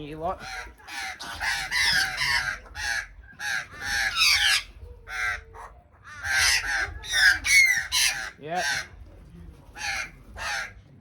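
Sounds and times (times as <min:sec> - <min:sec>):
birds calling harshly: 0:00.0 - 0:11.0.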